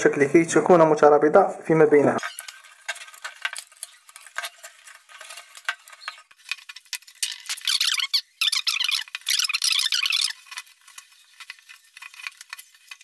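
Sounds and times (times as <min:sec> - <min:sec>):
wire scraping and rustling: 0:02.2 - 0:13.0.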